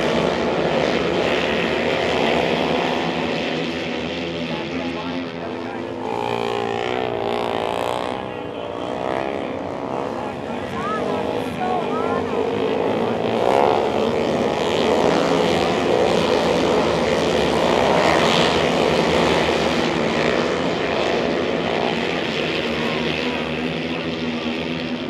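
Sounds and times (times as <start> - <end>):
racing motorcycle engines droning: 0.0 - 25.0.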